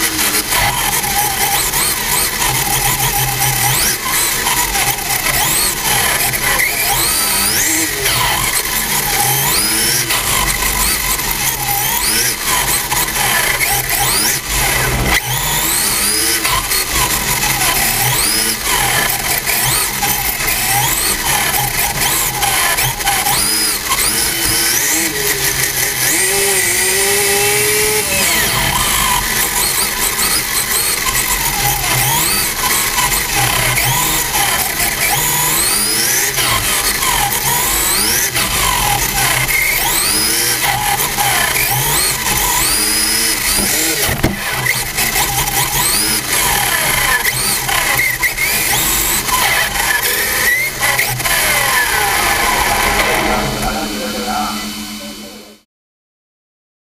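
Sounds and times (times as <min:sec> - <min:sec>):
rc car motor whining: 0:00.0 - 0:55.5.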